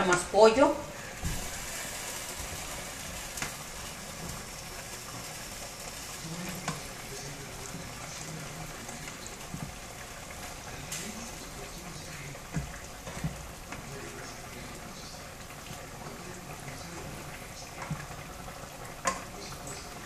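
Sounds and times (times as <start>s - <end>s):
sauce bubbling and sizzling in a pan: 0.0s - 20.0s.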